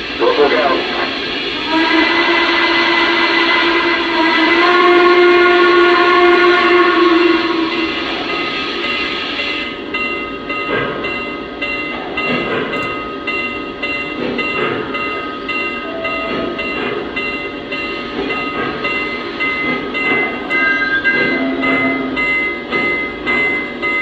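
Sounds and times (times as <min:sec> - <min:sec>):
model steam locomotive sounds: 0:00.0 - 0:24.0.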